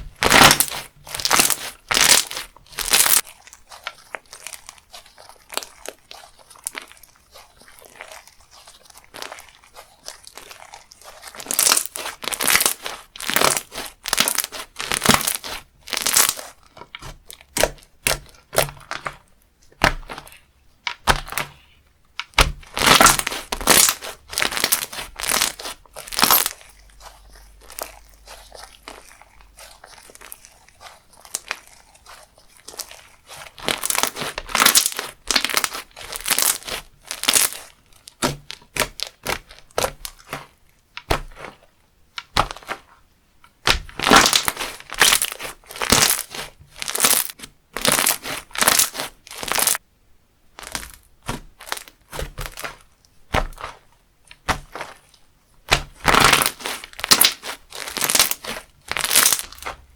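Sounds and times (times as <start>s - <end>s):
crunchy slime crackling: 0.0s - 49.8s, 50.5s - 59.9s.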